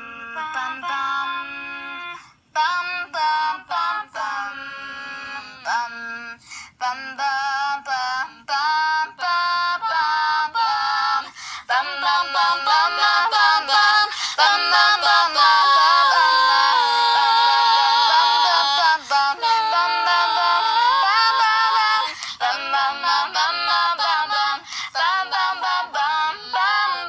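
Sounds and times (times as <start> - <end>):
synthesized female singing voice: 0.0 - 27.0.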